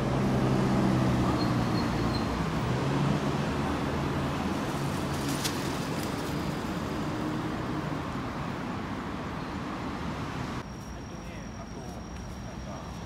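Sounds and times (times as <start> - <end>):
cars driving past: 0.0 - 10.6.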